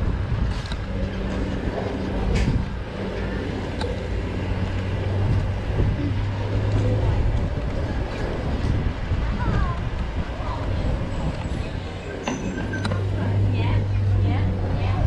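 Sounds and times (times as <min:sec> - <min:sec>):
street noise: 0:00.0 - 0:15.0
van engine humming: 0:00.0 - 0:15.0.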